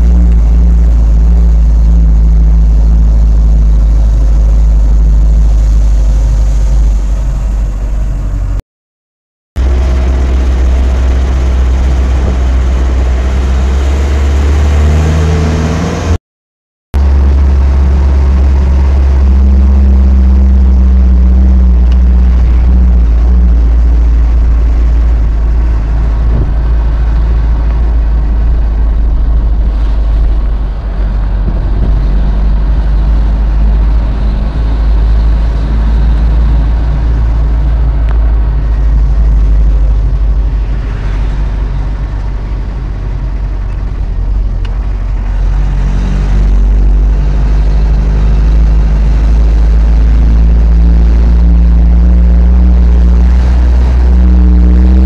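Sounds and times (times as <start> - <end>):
vehicle engine and road rumble: 0.0 - 8.6, 9.6 - 16.2, 17.0 - 55.0.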